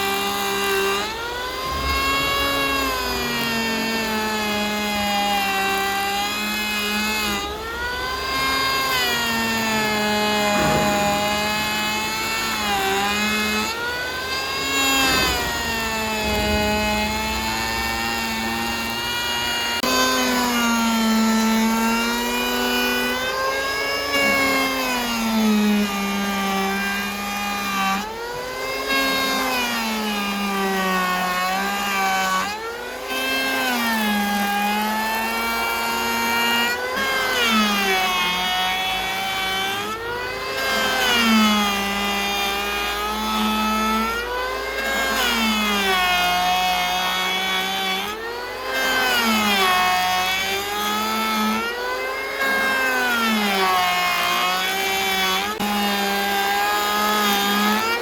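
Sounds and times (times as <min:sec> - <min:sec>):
motor-driven wood saw running: 0:00.0 - 0:58.0.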